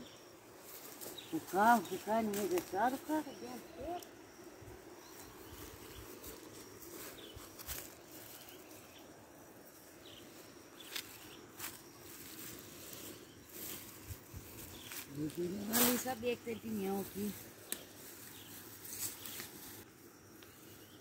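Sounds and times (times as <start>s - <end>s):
faint rural ambience: 0.0s - 21.0s.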